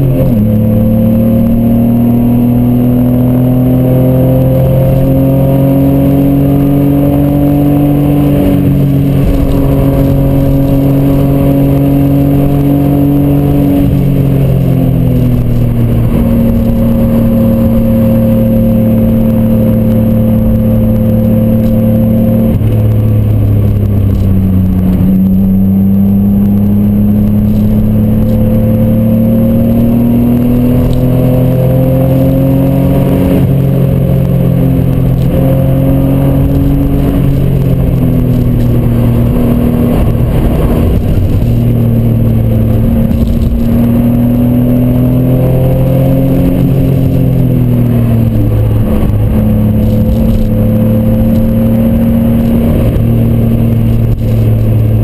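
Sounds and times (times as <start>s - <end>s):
car engine accelerating: 0.0s - 55.0s
road and wind noise: 0.0s - 55.0s.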